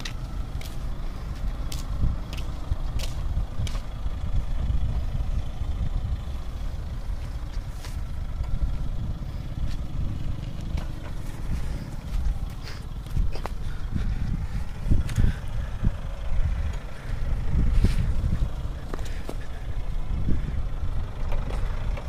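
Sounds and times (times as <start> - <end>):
vehicle engine low rumble: 0.0 - 22.0.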